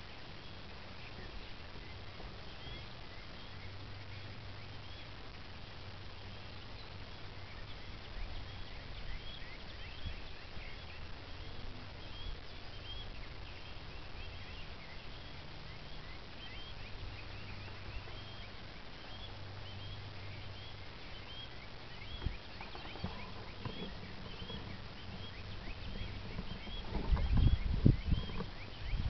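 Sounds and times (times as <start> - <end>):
low steady hum: 0.0 - 29.0
small bird chirping: 0.1 - 5.3, 6.0 - 29.0.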